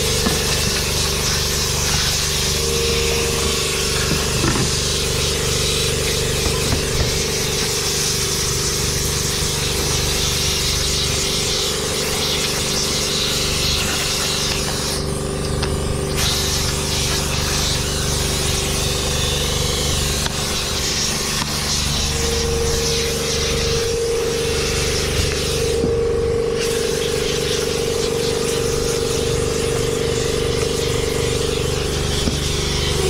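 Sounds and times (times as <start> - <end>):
snowcat engine drone: 0.0 - 33.0.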